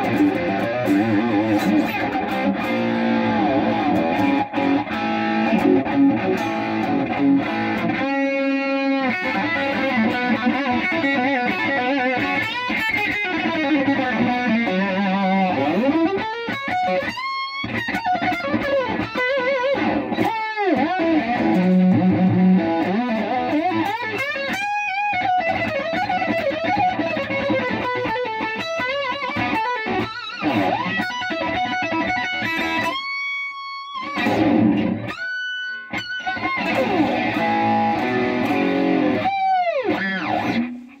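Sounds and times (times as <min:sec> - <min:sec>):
electric guitar lead lines: 0:00.0 - 0:41.0.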